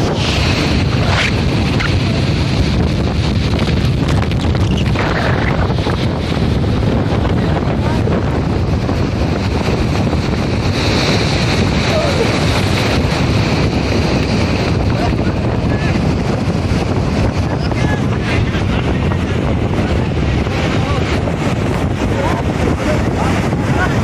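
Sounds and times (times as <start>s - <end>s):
surf washing up beach: 0.0s - 24.0s
wind buffeting microphone: 0.0s - 24.0s.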